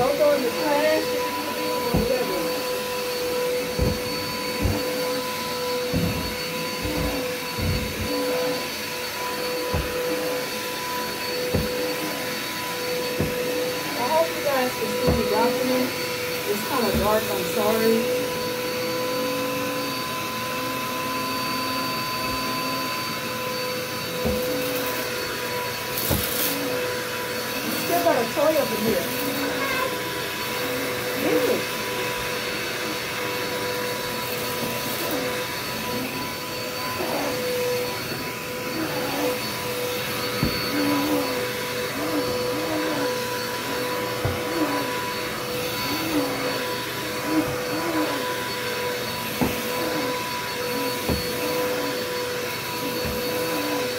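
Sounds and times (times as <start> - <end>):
vacuum cleaner motor whine: 0.0 - 53.9.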